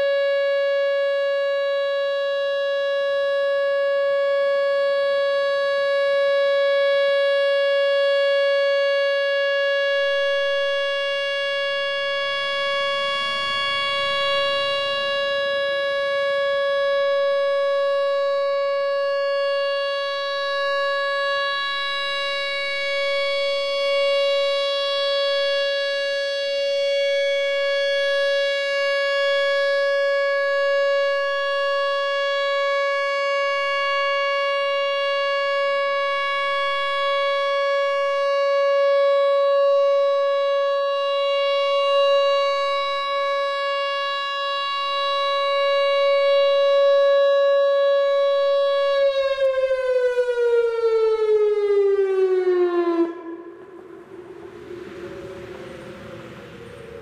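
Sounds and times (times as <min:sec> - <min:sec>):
outdoor warning siren: 0:00.0 - 0:57.0.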